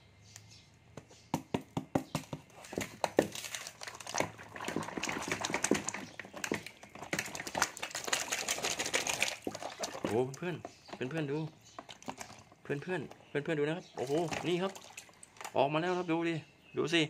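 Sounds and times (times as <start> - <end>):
plastic toys and ice clattering: 2.0 - 16.1.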